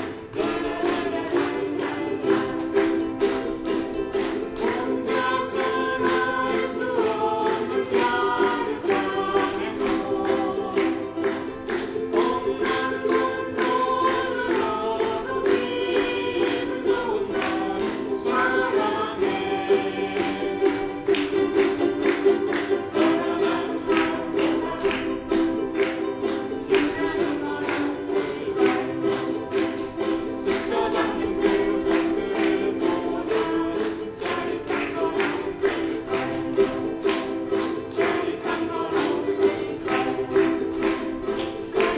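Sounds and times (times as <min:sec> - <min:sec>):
group singing together: 0:00.0 - 0:41.9
strummed accompaniment: 0:00.0 - 0:41.9.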